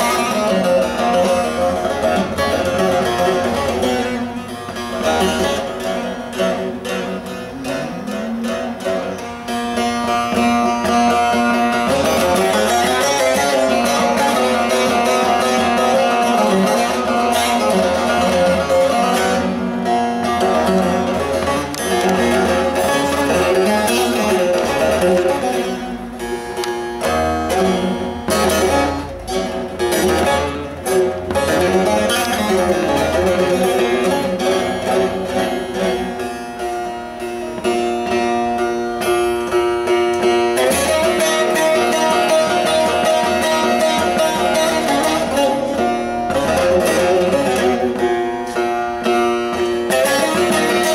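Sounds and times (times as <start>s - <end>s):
plucked long-necked lute: 0.0s - 50.9s.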